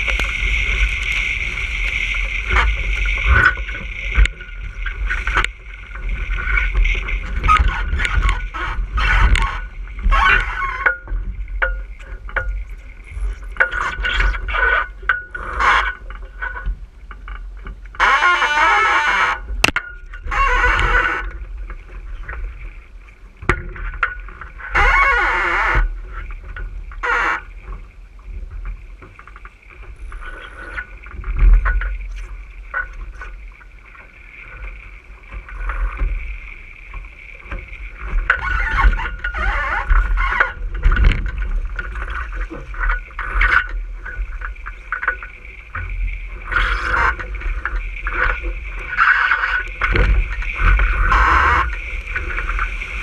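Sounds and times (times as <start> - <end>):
boat hull rushing through water: 0.0 - 53.0.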